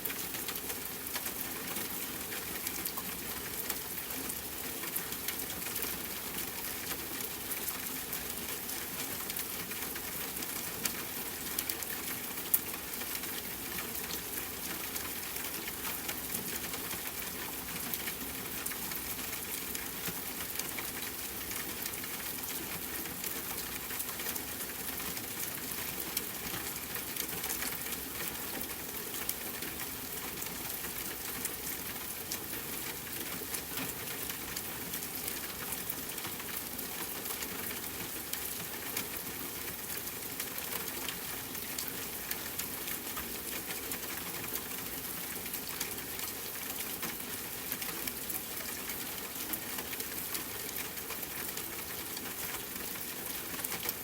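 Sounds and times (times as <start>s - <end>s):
rain pattering on a tent: 0.0s - 54.0s.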